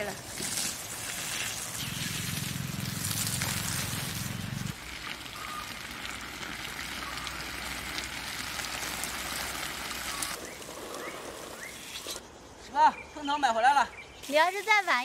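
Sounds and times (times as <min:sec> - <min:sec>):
hose water spraying on leaves: 0:00.0 - 0:12.2, 0:14.2 - 0:15.0.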